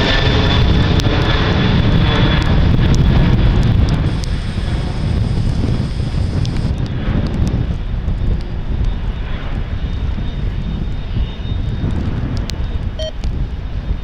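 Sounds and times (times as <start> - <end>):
jet engine low rumble and whine: 0.0 - 14.0
wind buffeting microphone: 0.0 - 14.0.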